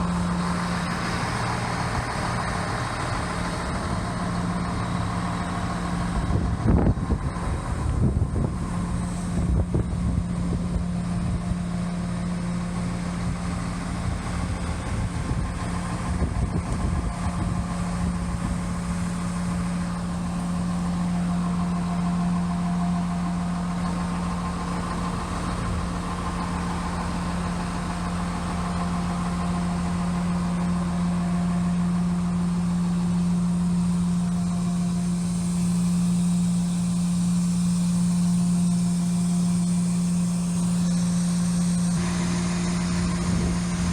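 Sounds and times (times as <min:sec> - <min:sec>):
engine idling hum: 0:00.0 - 0:43.9.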